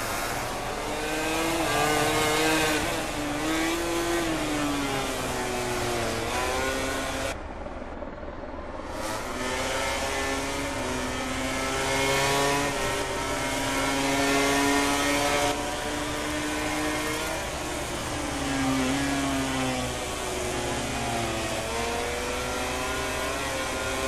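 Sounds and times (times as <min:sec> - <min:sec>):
racing motorcycle engines revving: 0:00.0 - 0:07.9, 0:08.8 - 0:24.0.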